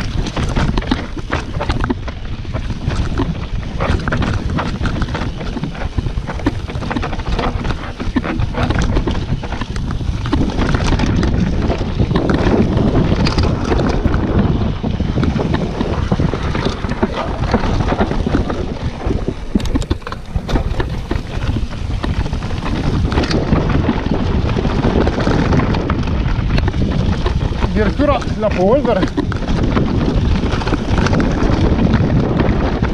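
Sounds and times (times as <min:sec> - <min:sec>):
mountain bike rattling: 0:00.0 - 0:32.9
wind on microphone: 0:00.0 - 0:32.9.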